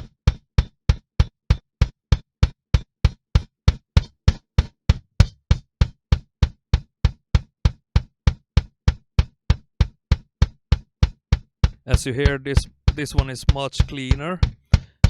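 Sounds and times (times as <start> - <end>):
kick drum hits: 0.0 - 15.0.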